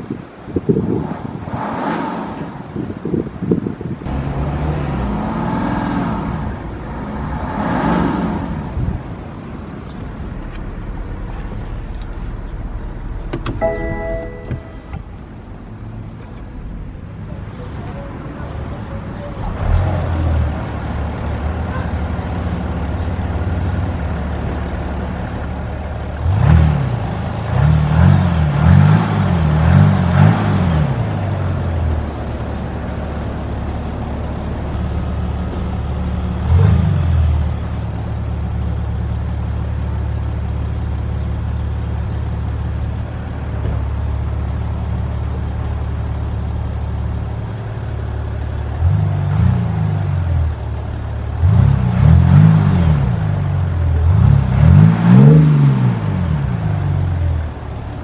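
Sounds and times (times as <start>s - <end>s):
diesel engine idling with throttle blips: 8.1s - 58.0s.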